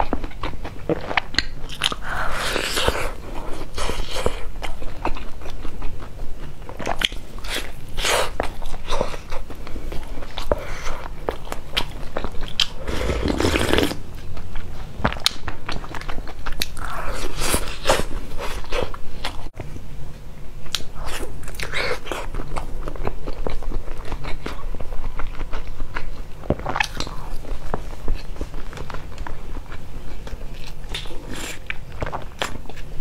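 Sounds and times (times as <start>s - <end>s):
person chewing crunchy bread: 0.0s - 19.6s, 20.7s - 33.0s.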